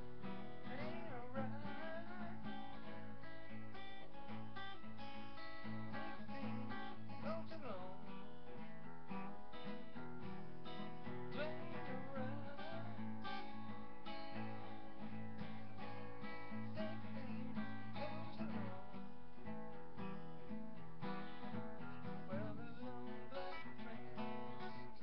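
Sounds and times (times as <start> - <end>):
acoustic guitar strumming blues: 0.0 - 25.0.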